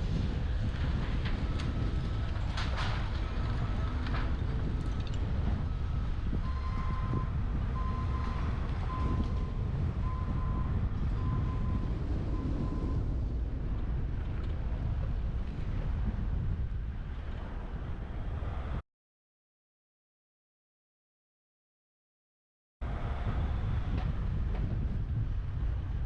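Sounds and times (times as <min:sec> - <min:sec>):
low road rumble: 0:00.0 - 0:18.8, 0:22.8 - 0:26.0
wind rushing over camera: 0:00.0 - 0:18.8, 0:22.8 - 0:26.0.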